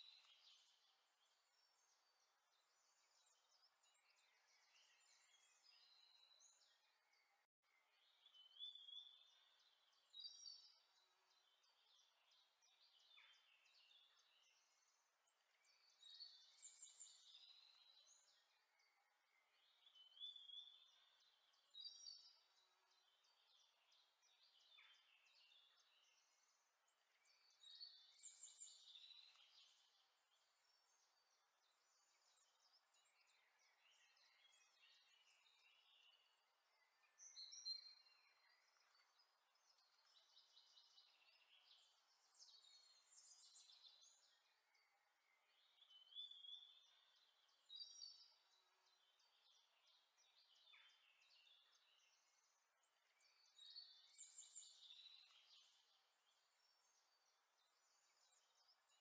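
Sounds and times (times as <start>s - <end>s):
faint bird chirps and whistles: 0.0s - 59.0s.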